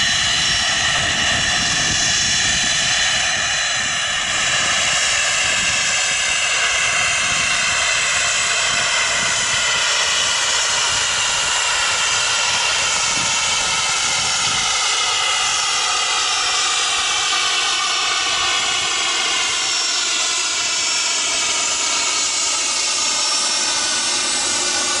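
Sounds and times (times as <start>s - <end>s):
propeller drone: 0.0s - 25.0s
turboprop engine whine: 0.0s - 25.0s.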